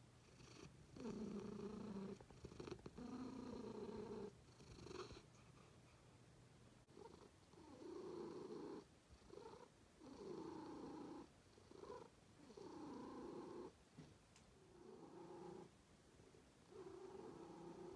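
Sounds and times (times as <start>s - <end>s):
cat purring: 0.2s - 5.8s, 6.9s - 13.8s, 14.6s - 17.9s.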